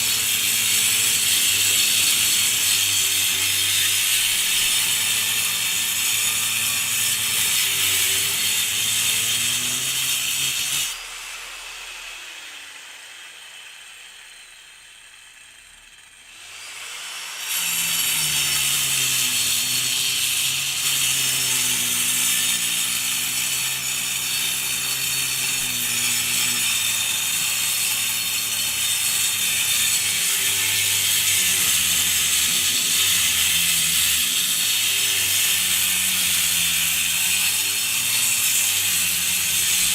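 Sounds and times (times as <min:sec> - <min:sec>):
angle grinder cutting concrete: 0:00.0 - 0:39.9.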